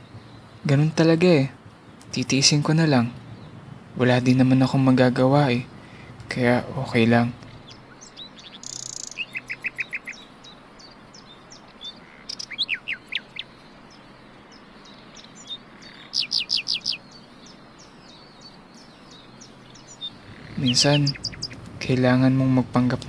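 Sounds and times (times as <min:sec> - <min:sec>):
faint steady hiss: 0:00.0 - 0:23.0
small birds chirping: 0:00.0 - 0:23.0.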